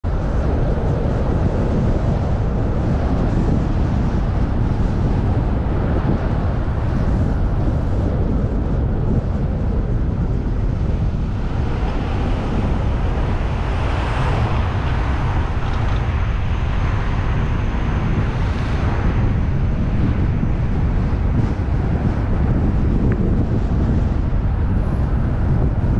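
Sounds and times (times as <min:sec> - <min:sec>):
car road and wind noise: 0:00.0 - 0:25.9.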